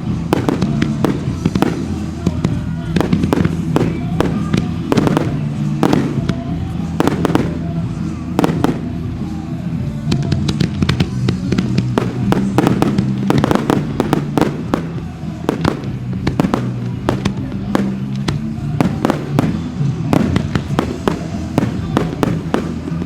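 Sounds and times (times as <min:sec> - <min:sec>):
fireworks bursting: 0:00.0 - 0:23.0
music with low notes: 0:00.0 - 0:23.0.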